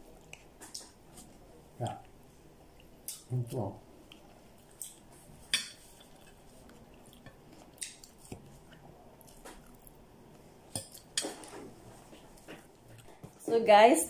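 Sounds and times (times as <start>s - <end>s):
soft chewing: 0.0s - 13.5s.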